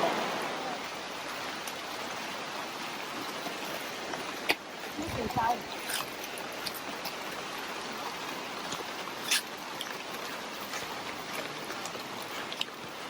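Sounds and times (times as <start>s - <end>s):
wet rainforest hiss: 0.0s - 13.0s.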